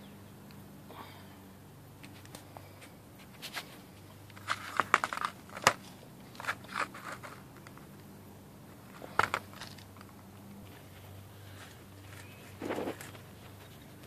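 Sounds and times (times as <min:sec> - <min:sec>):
faint steady hum: 0:00.0 - 0:14.0
handling clicks and rustles: 0:01.9 - 0:14.0.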